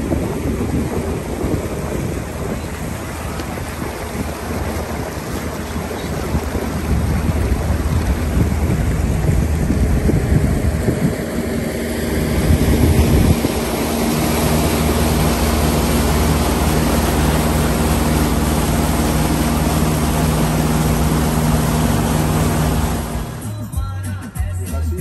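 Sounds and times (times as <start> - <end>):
wind buffeting microphone: 0.0 - 23.4
motorboat engine droning: 0.0 - 23.7
rush of boat wake: 0.0 - 23.7.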